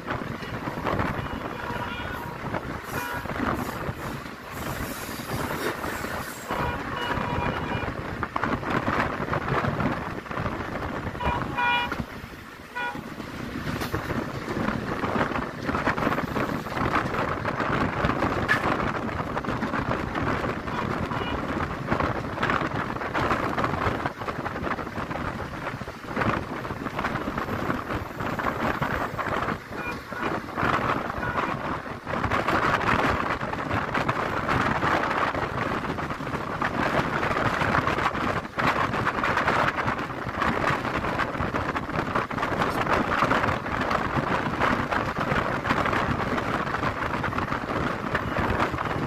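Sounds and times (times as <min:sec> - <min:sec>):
rumble of wheels on rail: 0:00.0 - 0:49.0
rushing wind: 0:00.0 - 0:49.0.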